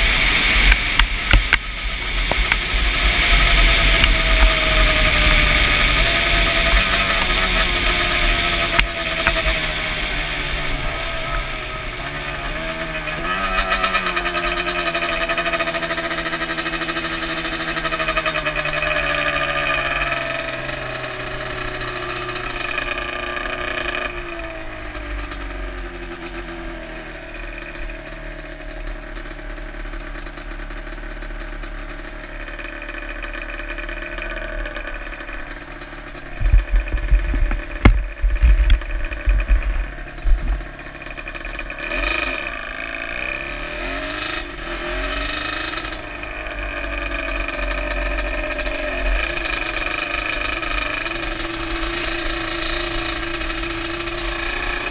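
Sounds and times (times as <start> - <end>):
two-stroke quad engine running: 0.0 - 54.9.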